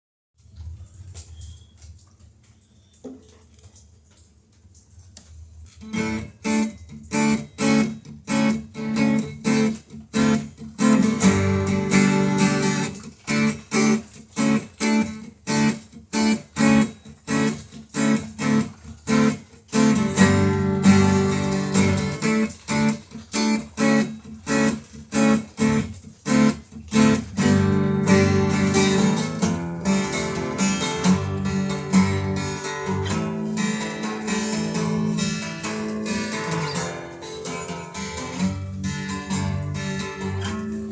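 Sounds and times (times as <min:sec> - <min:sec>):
acoustic guitar strumming: 0:05.8 - 0:40.9.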